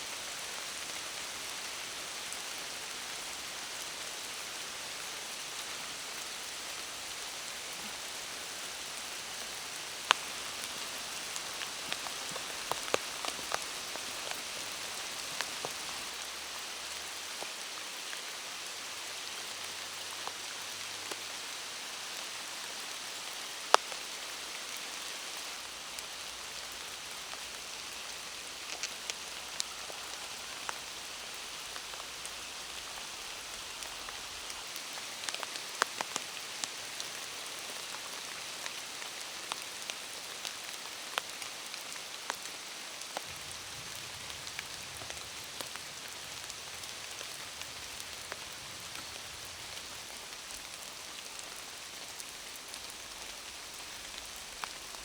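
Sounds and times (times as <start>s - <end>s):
rain falling in forest: 0.0s - 55.0s
raindrops ticking close by: 0.0s - 55.0s.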